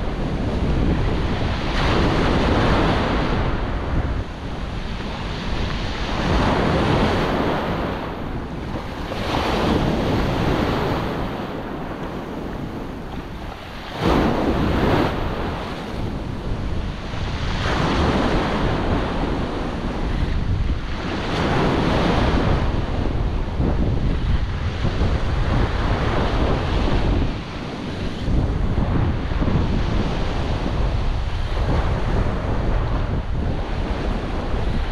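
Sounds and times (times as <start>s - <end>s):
waves breaking on shore: 0.0s - 34.9s
wind buffeting microphone: 0.0s - 34.9s.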